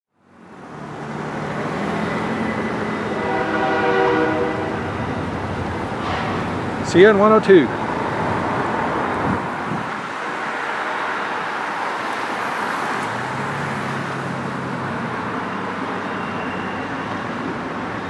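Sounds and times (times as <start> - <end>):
cars passing: 0.2 - 18.0
train rolling over steel bridge: 0.3 - 18.0.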